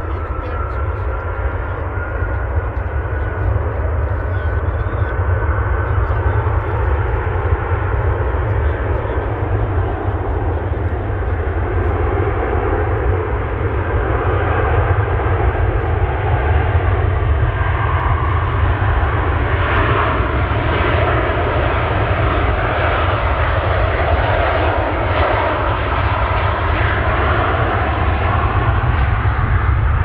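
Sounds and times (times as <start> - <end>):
airliner engines roaring: 0.0 - 30.0.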